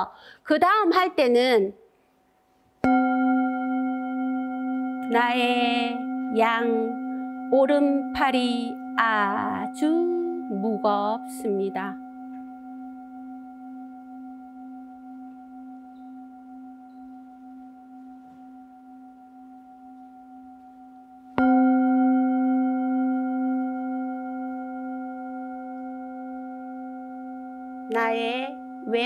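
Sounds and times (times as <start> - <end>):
metal singing bowl ringing: 2.8 - 29.0.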